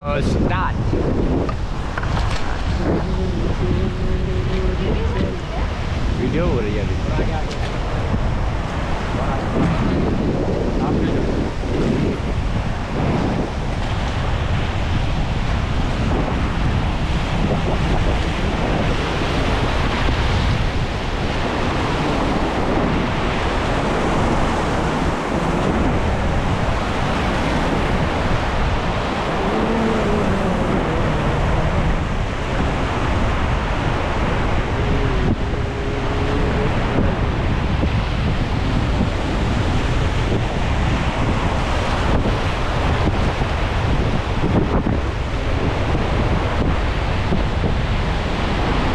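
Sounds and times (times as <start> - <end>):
wind buffeting microphone: 0.0 - 48.9
river rapids roaring: 1.4 - 48.9.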